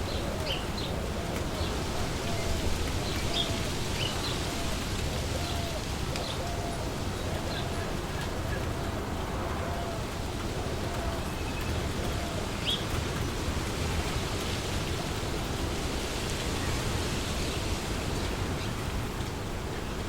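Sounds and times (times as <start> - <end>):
wind rustling leaves: 0.0 - 20.0.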